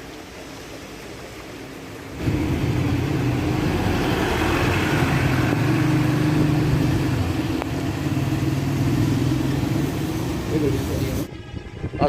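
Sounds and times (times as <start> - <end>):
engine running steadily: 0.0 - 11.3.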